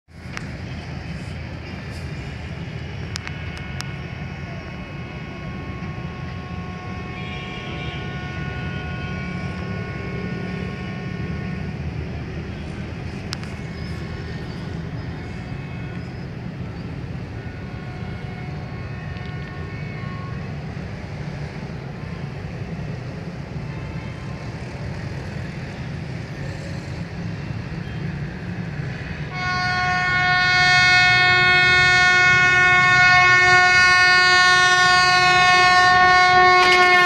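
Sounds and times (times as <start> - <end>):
distant engines and traffic rumble: 0.1 - 37.0.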